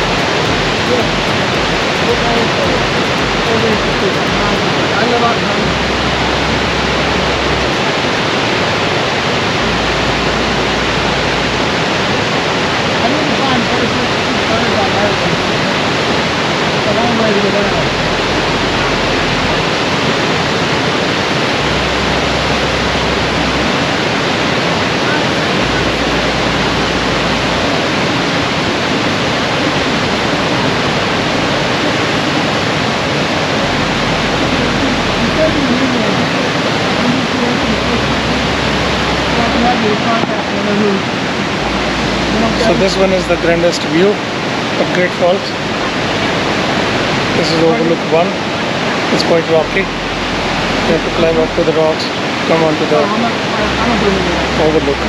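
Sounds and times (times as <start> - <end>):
low rumble: 0.0 - 55.0
white water roaring over rocks: 0.0 - 55.0.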